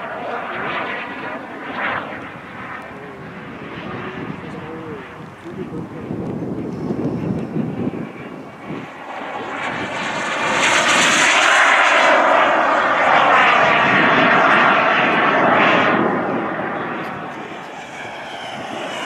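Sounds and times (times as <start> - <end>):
model airplane engine flying past: 0.0 - 19.0.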